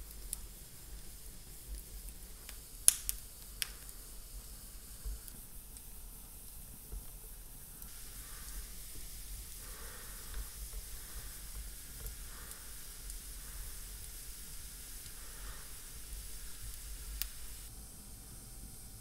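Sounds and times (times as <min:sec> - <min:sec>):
faint fire crackles: 0:00.0 - 0:19.0
fire hissing and sizzling: 0:00.0 - 0:19.0.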